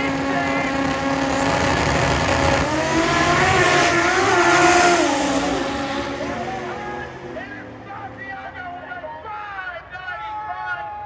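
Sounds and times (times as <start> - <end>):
drag racing cars accelerating: 0.0 - 10.0.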